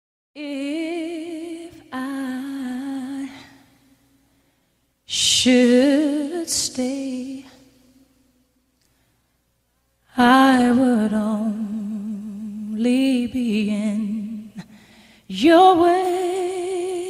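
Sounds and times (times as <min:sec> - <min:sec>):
wordless singing with vibrato: 0:00.4 - 0:04.3, 0:05.0 - 0:08.5, 0:10.0 - 0:17.0.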